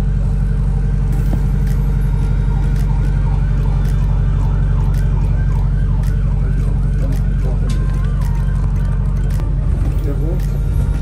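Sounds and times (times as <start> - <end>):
road noise: 0.0 - 11.0
vehicle engine rumble: 0.0 - 11.0
emergency siren yelping: 1.6 - 10.5.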